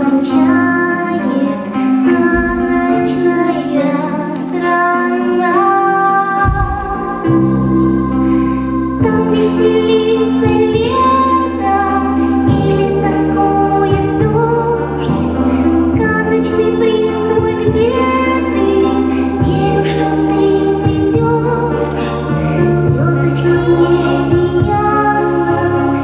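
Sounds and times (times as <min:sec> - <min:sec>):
backing music: 0:00.0 - 0:26.0
girl singing into a microphone: 0:00.0 - 0:26.0.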